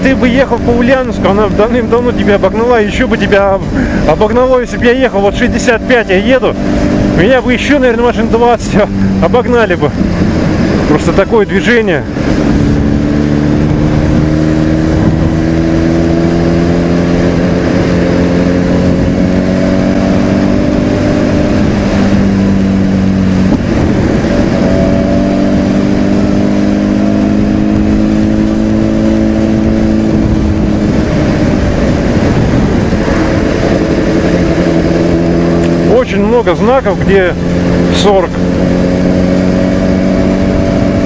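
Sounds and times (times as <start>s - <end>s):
motorcycle engine cruising: 0.0s - 41.0s
wind rushing over microphone: 0.0s - 41.0s.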